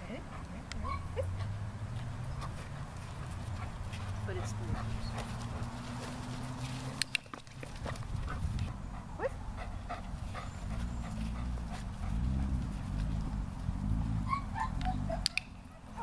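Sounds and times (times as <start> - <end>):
dog panting: 0.0 - 13.8.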